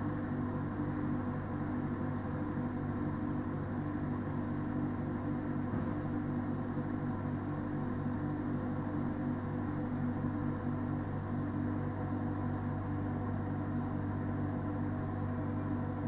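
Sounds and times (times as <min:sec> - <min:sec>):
refrigeration unit running: 0:00.0 - 0:16.0.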